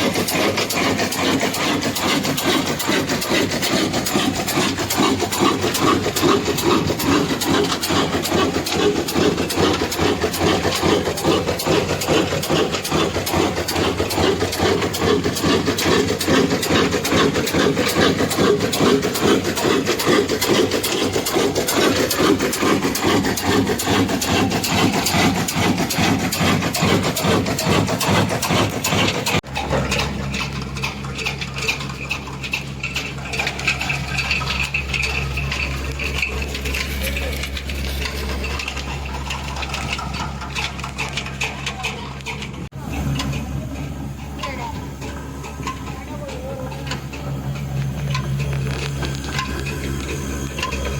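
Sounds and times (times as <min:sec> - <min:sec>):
diesel engine chugging: 0:00.0 - 0:50.9.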